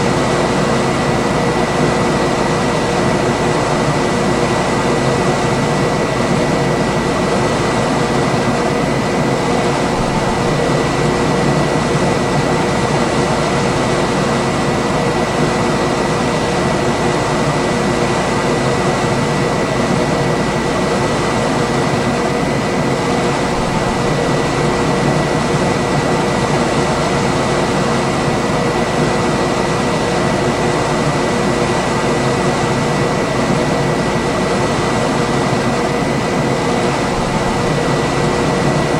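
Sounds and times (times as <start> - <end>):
air conditioner running: 0.0 - 38.9.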